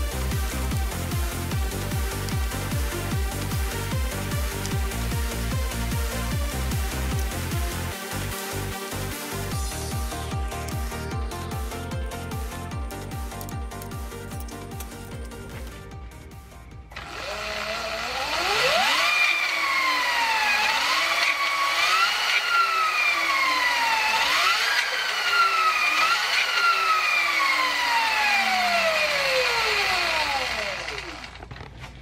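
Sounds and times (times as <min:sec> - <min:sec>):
electric motor whining: 0:00.0 - 0:15.7, 0:16.9 - 0:31.6.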